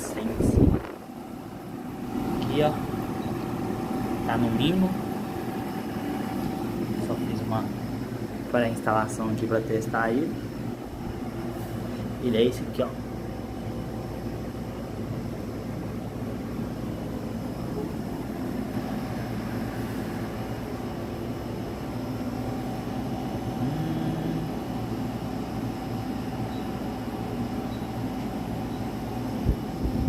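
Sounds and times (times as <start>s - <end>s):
air conditioner humming: 0.0s - 30.0s.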